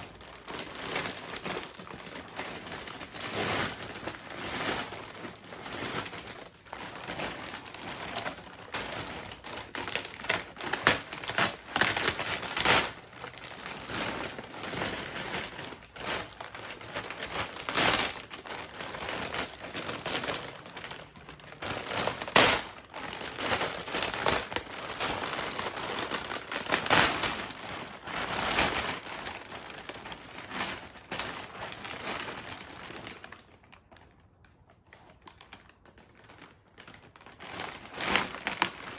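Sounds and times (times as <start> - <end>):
plastic film crinkling: 0.0 - 38.9.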